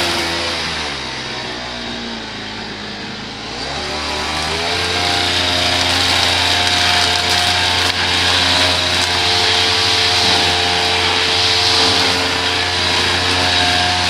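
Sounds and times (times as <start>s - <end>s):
small gasoline engine running: 0.0s - 14.0s.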